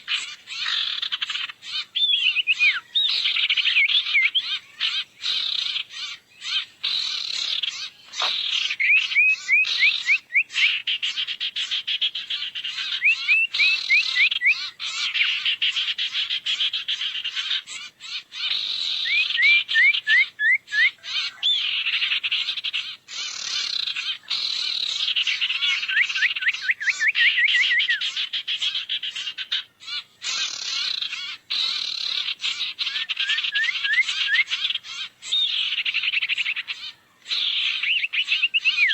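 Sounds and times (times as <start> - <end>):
bird twittering and trilling: 0.0 - 38.9.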